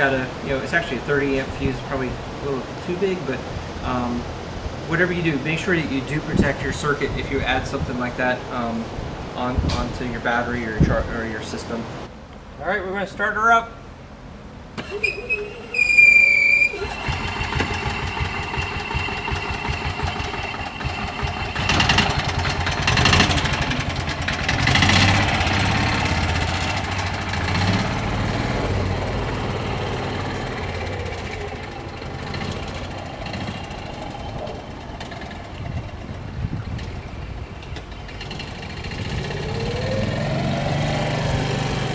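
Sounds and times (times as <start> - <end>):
golf car engine starting and revving: 0.0 - 12.1, 14.1 - 41.9.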